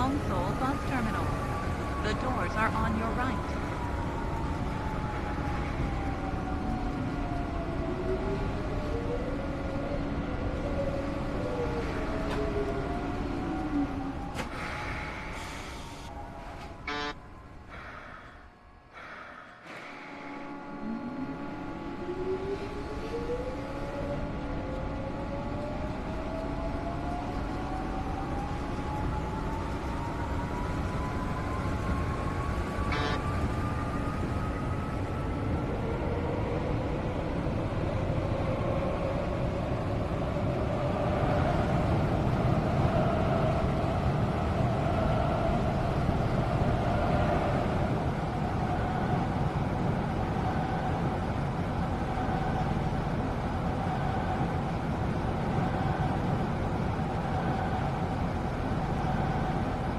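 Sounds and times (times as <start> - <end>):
train hum and rumble: 0.0 - 59.9.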